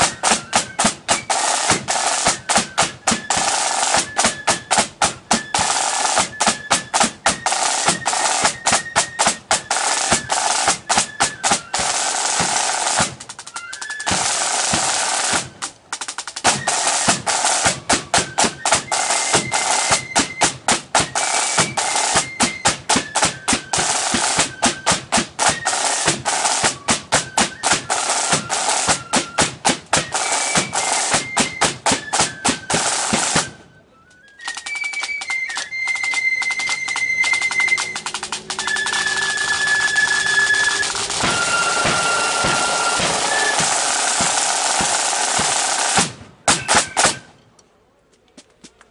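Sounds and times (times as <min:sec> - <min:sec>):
snare drumming: 0:00.0 - 0:33.6, 0:34.4 - 0:47.3
high flute melody: 0:00.0 - 0:47.5.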